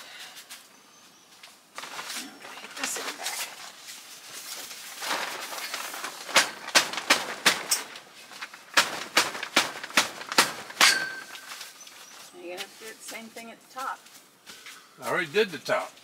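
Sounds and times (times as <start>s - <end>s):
canvas cover rustling: 1.6s - 14.7s.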